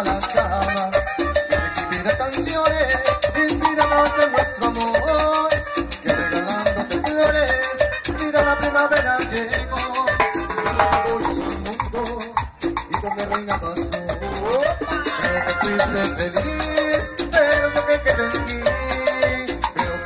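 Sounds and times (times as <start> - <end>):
fast percussion beat: 0.0 - 20.0
live latin dance band: 0.0 - 20.0.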